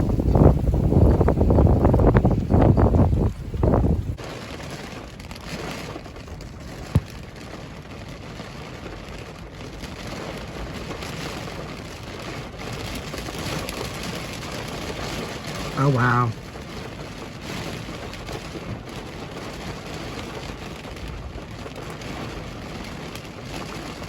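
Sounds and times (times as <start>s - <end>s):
steady rain: 0.0s - 24.0s
wind noise: 0.0s - 24.0s.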